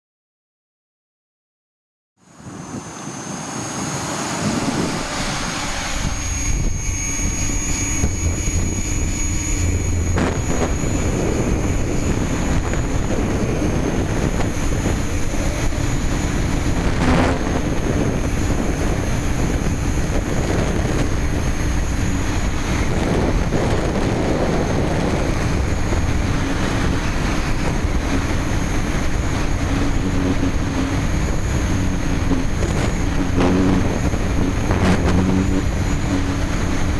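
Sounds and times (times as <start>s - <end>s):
drone rotors humming: 2.2s - 36.9s
thin high whine: 2.2s - 36.9s.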